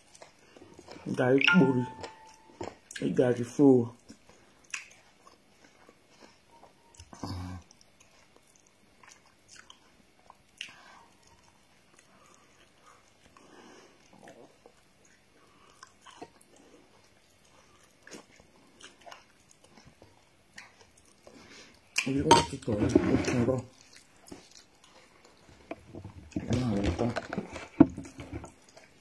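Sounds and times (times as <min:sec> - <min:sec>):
person chewing quietly: 0:00.0 - 0:22.2, 0:23.5 - 0:29.0.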